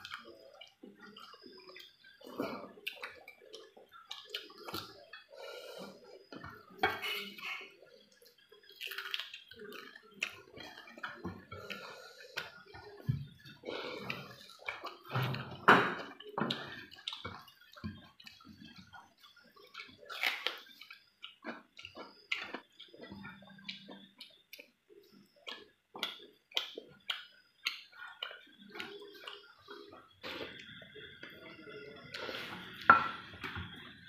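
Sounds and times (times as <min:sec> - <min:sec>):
wet chewing and lip smacks: 0:00.0 - 0:05.3, 0:08.0 - 0:15.0, 0:16.2 - 0:31.5.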